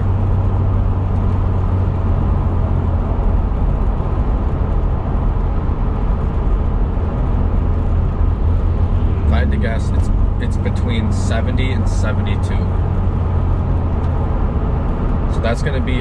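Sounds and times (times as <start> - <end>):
engine and road noise drone: 0.0 - 16.0.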